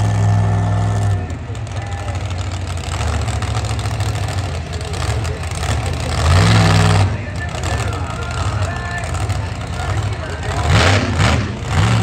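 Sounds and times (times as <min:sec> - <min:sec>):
monster truck engine rumbling: 0:00.0 - 0:12.0.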